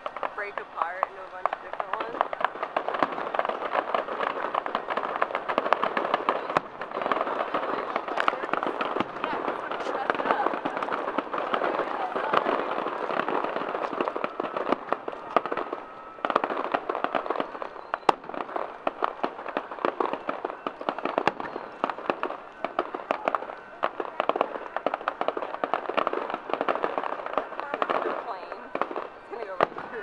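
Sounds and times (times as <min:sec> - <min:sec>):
fireworks bursting and crackling: 0:00.0 - 0:30.0.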